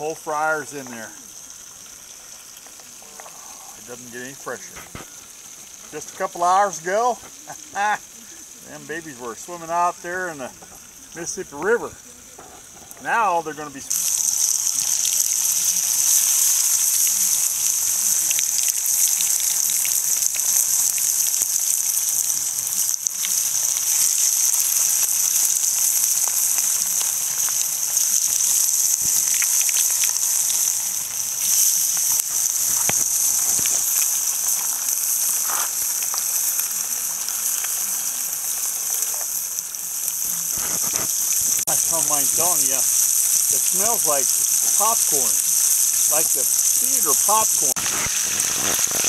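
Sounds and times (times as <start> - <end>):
fish deep-frying in hot oil: 0.0 - 49.0.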